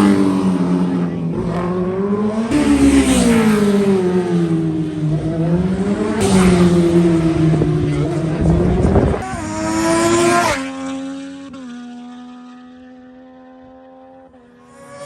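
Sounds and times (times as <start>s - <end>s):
racing motorcycle engine revving: 0.0s - 15.0s.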